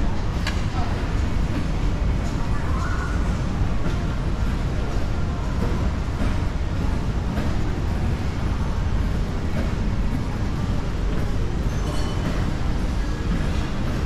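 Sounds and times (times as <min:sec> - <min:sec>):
low background rumble of hall: 0:00.0 - 0:14.0.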